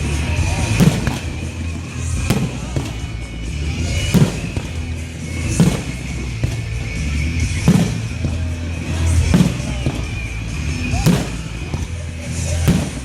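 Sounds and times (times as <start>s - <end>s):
fireworks exploding: 0.0s - 13.0s
music playing: 0.0s - 13.0s.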